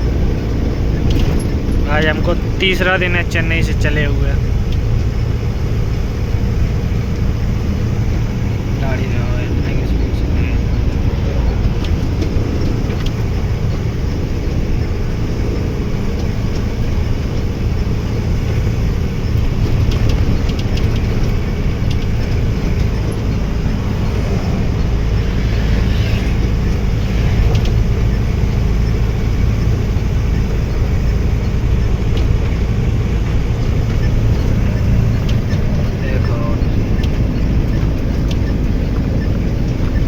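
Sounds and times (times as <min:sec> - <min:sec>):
light rattles: 0:00.0 - 0:40.0
road noise: 0:00.0 - 0:40.0
truck engine rumbling: 0:00.0 - 0:40.0.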